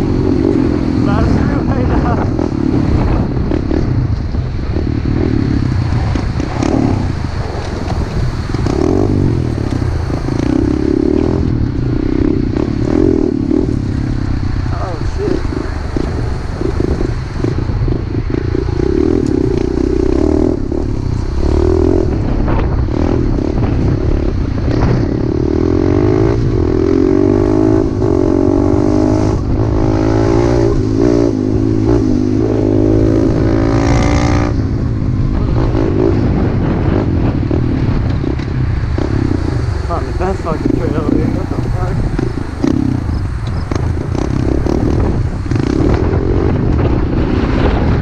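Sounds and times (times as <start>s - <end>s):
pit bike engine revving: 0.0s - 48.0s.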